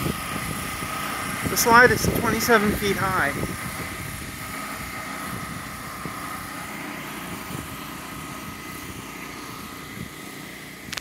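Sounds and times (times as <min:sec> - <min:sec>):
blower whine: 0:00.0 - 0:11.0
generator engine drone: 0:00.0 - 0:11.0.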